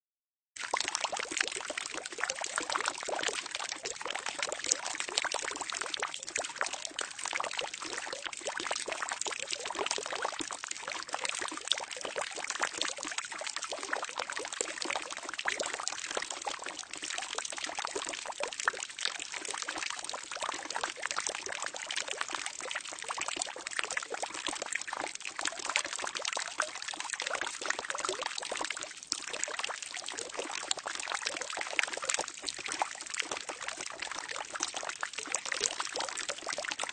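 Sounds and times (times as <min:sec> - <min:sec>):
water pouring into a barrel: 0:00.6 - 0:36.9.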